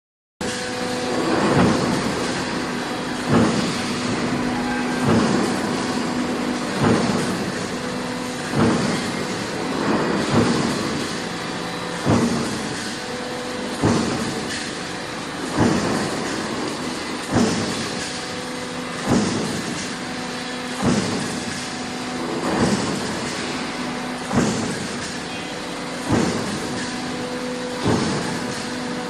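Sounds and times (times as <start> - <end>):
hydraulic press humming: 0.4 - 29.0
hydraulic press thuds: 0.4 - 29.0.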